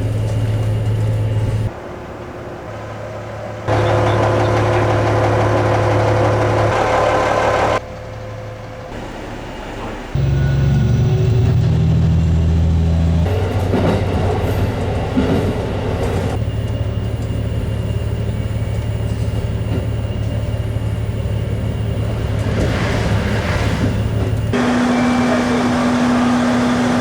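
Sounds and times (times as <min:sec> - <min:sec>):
rail and wheel noise: 0:00.0 - 0:27.0
railcar engine drone: 0:00.0 - 0:27.0.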